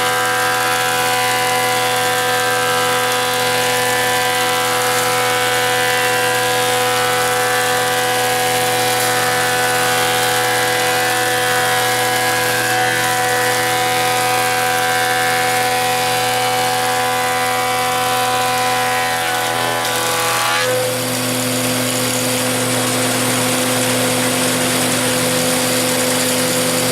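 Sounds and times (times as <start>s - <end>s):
planer machine droning with whine: 0.0s - 26.9s.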